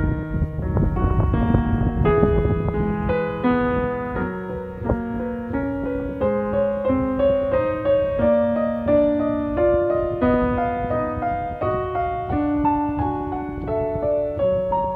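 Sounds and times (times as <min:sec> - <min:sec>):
slow piano music: 0:00.0 - 0:14.9.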